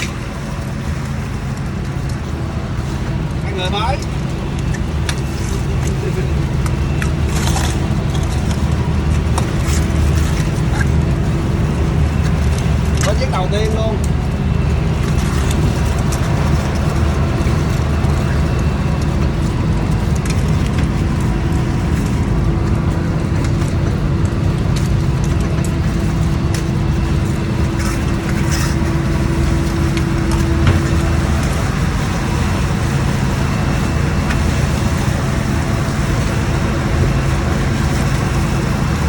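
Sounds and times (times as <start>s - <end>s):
boat engine droning: 0.0s - 39.0s
steady higher hum: 0.0s - 39.0s.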